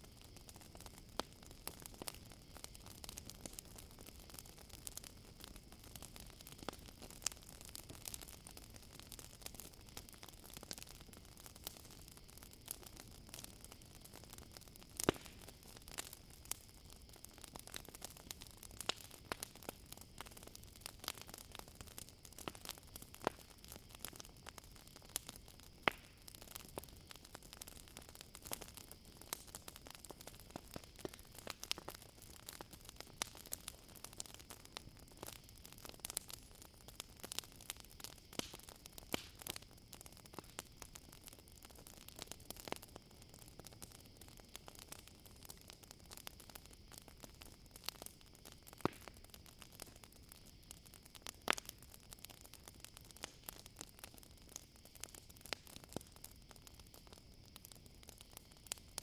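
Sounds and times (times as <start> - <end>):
campfire crackling and popping: 0.0 - 59.0
crickets chirring: 0.0 - 59.0.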